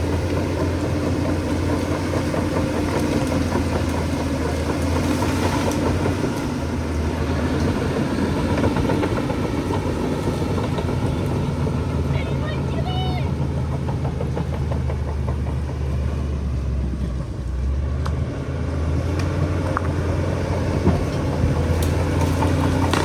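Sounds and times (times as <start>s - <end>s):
bulldozer diesel engine droning: 0.0s - 23.0s.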